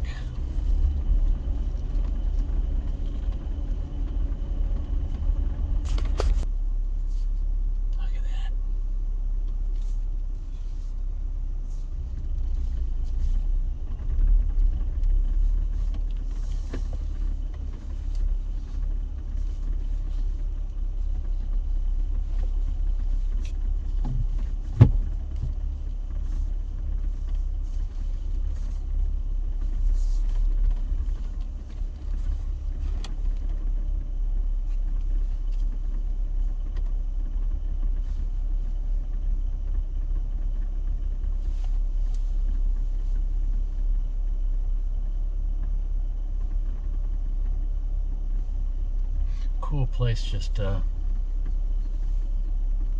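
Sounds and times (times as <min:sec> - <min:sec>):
engine and cab rumble: 0:00.0 - 0:52.9.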